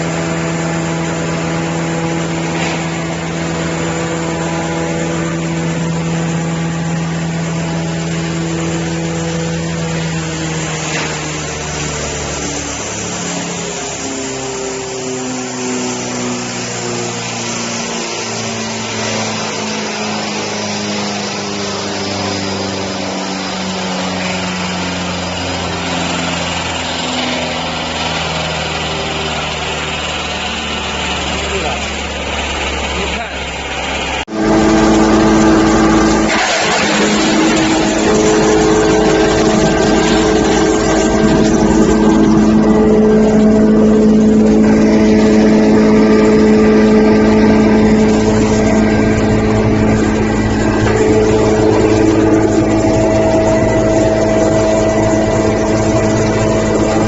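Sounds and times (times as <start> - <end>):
cardboard grinder humming: 0.0 - 57.0.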